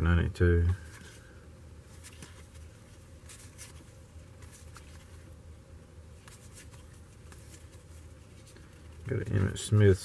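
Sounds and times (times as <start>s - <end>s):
steady low hum: 0.0s - 10.0s
trading cards swishing and rustling: 0.8s - 5.4s, 6.1s - 10.0s.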